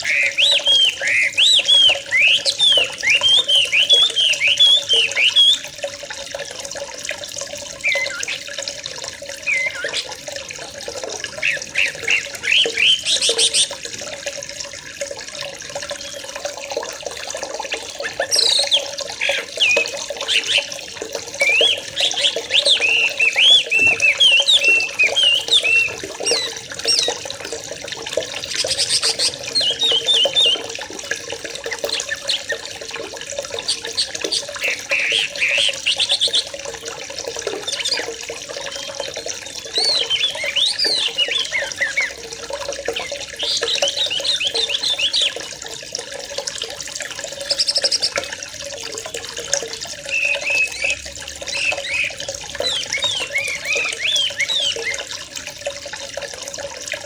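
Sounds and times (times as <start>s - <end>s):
birds calling and chattering: 0.0s - 14.2s, 15.8s - 45.7s, 47.3s - 48.4s, 49.4s - 55.3s
running water: 0.0s - 57.0s.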